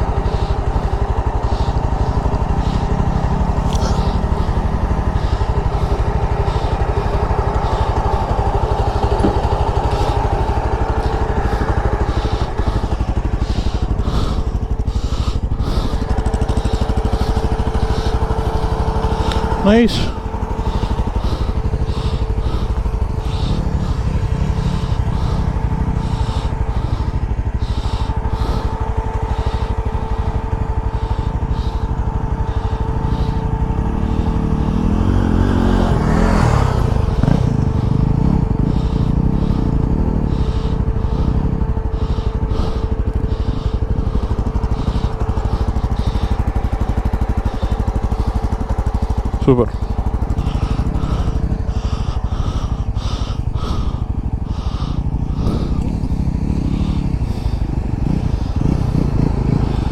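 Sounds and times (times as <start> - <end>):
motorcycle engine running: 0.0 - 59.9
steady whine: 0.0 - 59.9.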